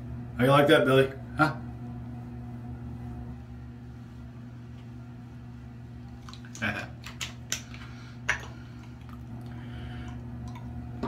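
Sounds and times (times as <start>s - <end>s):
electric fan humming: 0.0s - 11.0s.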